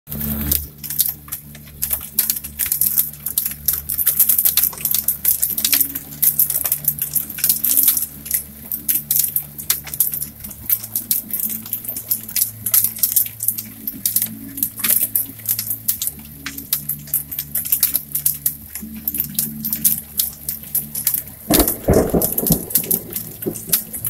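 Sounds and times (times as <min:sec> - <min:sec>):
rain: 0:00.1 - 0:24.0
hailstones pelting a window: 0:00.2 - 0:24.0.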